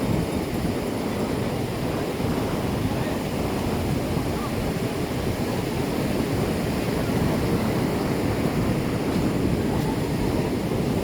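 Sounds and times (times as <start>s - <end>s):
ocean surf breaking on shore: 0.0s - 11.0s
wind buffeting microphone: 0.0s - 11.0s.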